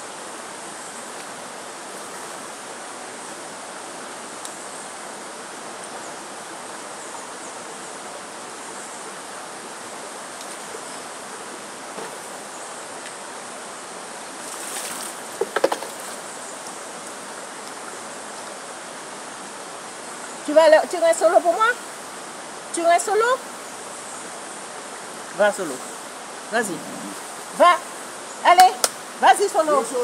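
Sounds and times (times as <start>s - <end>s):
running water hissing: 0.0s - 30.0s.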